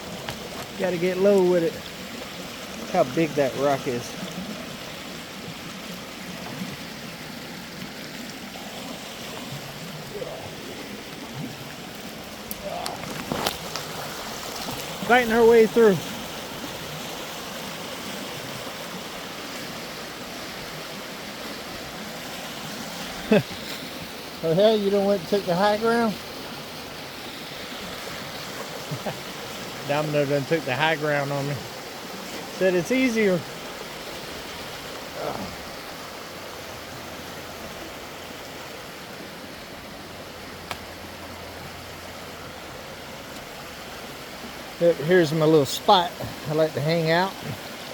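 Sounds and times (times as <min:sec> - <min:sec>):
creek running over rocks: 0:00.0 - 0:47.9.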